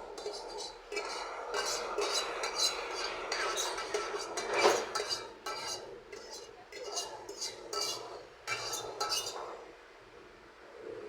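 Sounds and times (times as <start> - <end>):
metal utensil scraping cookware: 0.2 - 9.4.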